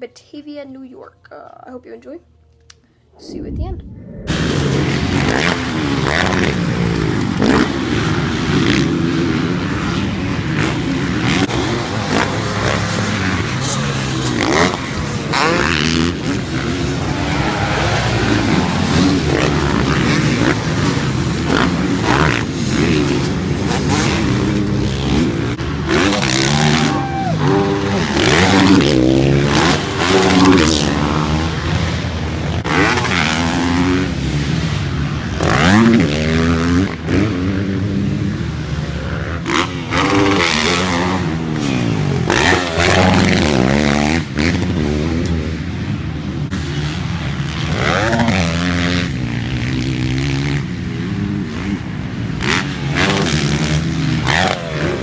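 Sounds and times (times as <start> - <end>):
dirt bike engines revving: 3.2 - 55.0.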